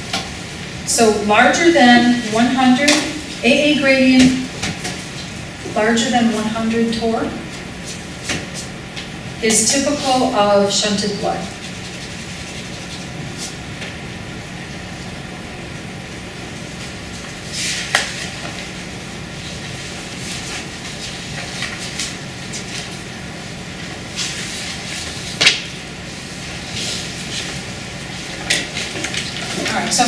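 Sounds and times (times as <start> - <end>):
steady room hum: 0.0 - 30.0.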